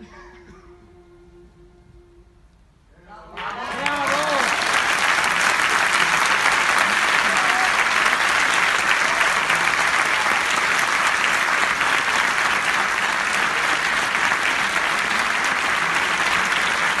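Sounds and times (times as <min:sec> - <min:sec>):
audience applauding: 0:03.4 - 0:17.0.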